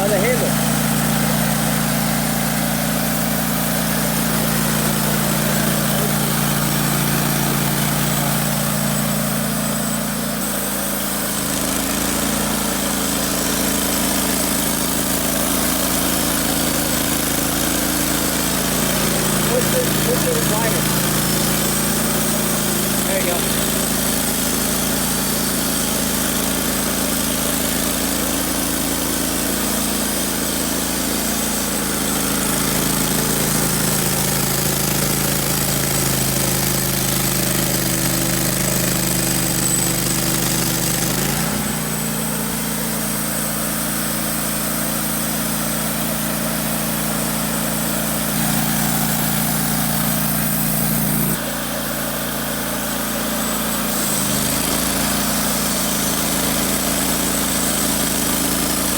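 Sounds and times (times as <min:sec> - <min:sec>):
saw cutting log: 0:00.0 - 0:58.9
sawmill engine running: 0:00.0 - 0:58.9.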